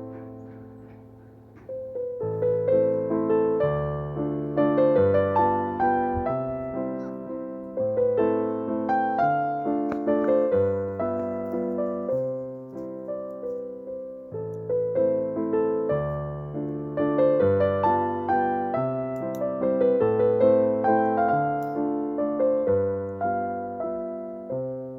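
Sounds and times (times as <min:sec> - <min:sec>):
gentle solo piano music: 0:00.0 - 0:24.9.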